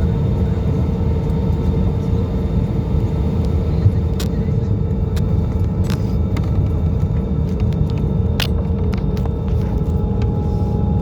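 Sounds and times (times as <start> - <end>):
jet engine rumble: 0.0 - 11.0.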